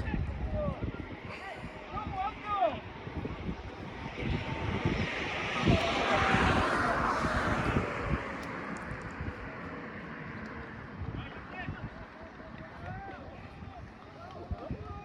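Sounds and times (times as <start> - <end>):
aircraft passing overhead: 0.0 - 14.3.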